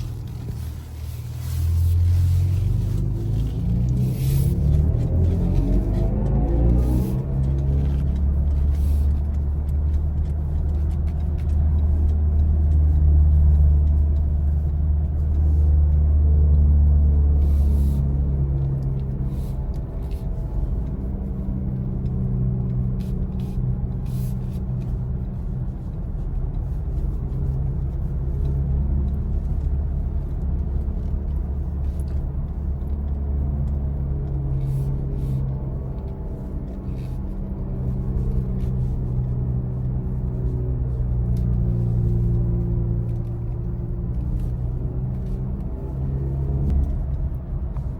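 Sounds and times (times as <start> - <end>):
car road rumble and hum: 0.0 - 47.9.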